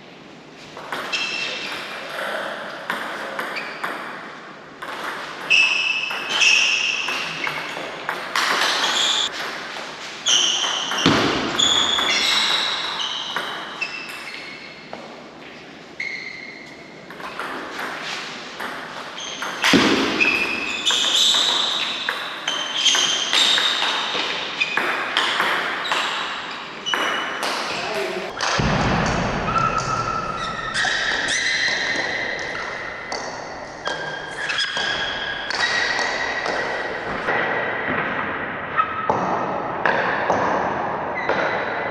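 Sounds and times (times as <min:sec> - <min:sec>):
table tennis balls pinging: 0:00.7 - 0:41.9.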